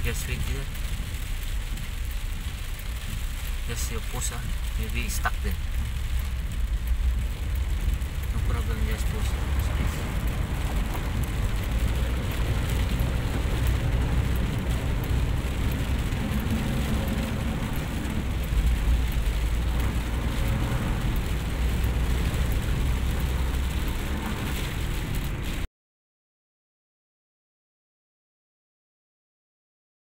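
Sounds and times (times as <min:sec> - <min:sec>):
engine and tyres on wet road: 0:00.0 - 0:25.7
rain on windscreen: 0:00.0 - 0:25.7.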